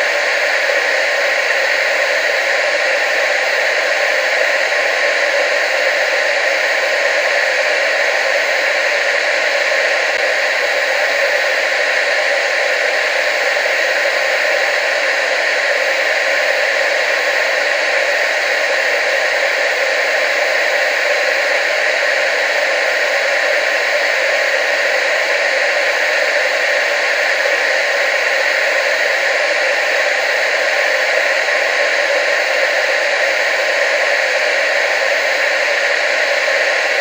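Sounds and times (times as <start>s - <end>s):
television static hiss: 0.0s - 37.0s.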